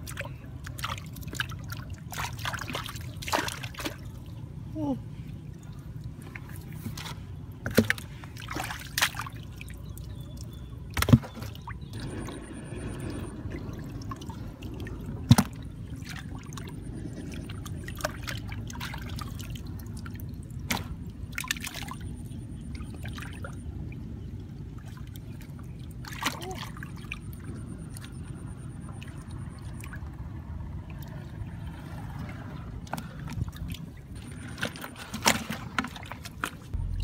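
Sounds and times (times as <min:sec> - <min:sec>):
water trickling and sloshing: 0:00.0 - 0:37.0.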